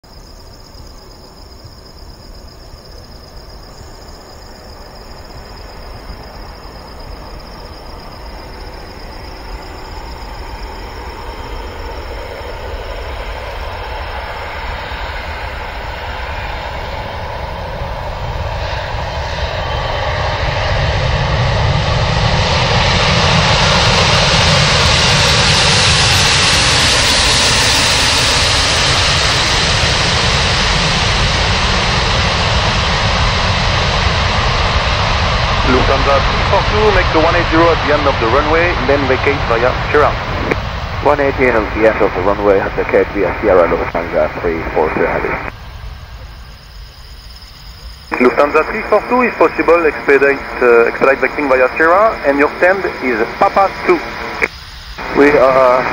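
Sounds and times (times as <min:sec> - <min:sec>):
jet engines roaring: 0:00.1 - 0:55.9.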